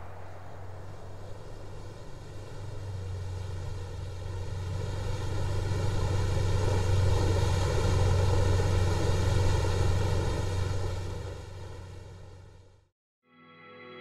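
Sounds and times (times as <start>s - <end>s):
boat outboard engine drone: 0.0s - 12.9s.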